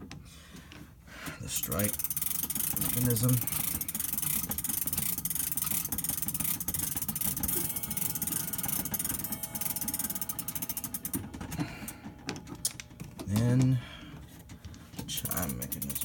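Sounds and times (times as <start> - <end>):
clock winding ratchet clicking: 1.5 - 14.2, 14.9 - 16.0.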